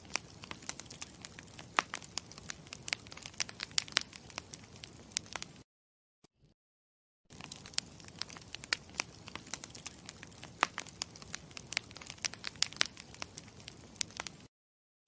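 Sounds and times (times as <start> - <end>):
campfire crackling and popping: 0.0 - 5.6, 7.3 - 14.5.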